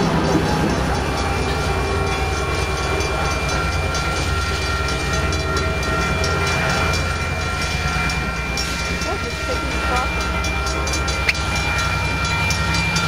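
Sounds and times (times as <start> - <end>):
diesel locomotive engine droning: 0.0 - 13.0
high whine: 0.0 - 13.0
train wheels rolling on rails: 0.0 - 13.0.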